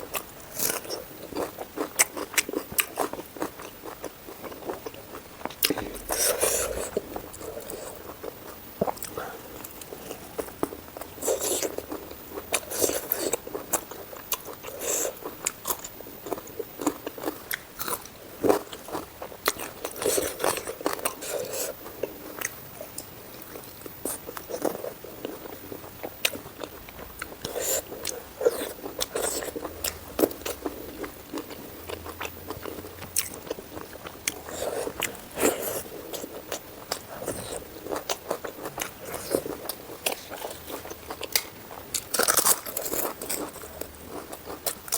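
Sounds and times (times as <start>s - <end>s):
food crunching: 0.0s - 44.9s
person chewing food: 0.0s - 44.9s.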